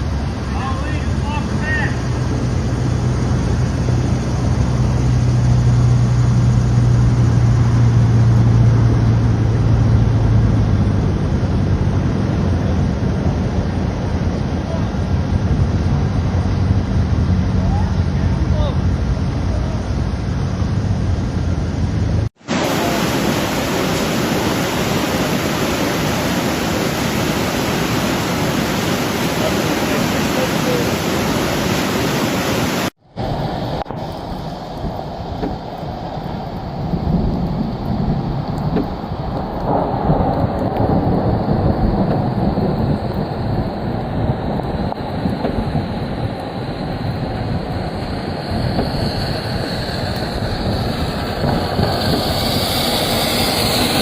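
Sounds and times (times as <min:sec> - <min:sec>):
engine droning: 0:00.0 - 0:54.0
floodwater rushing: 0:00.0 - 0:54.0.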